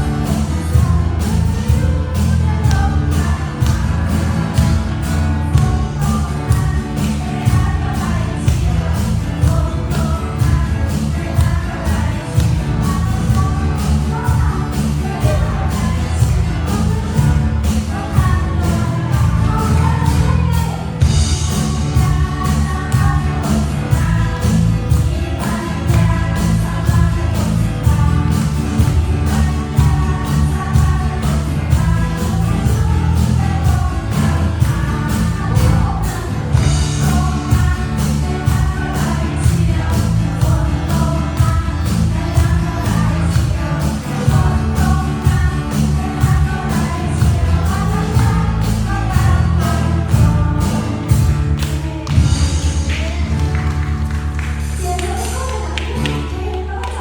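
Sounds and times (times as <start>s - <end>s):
band with steady drum beat: 0.0s - 56.2s
worship song singing: 0.0s - 57.0s.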